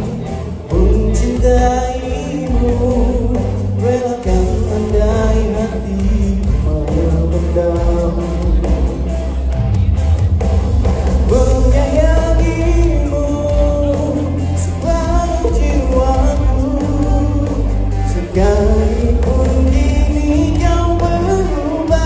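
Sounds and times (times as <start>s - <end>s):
man singing into microphone: 0.0s - 9.4s, 11.3s - 22.0s
amplified backing music with heavy bass: 0.0s - 22.0s.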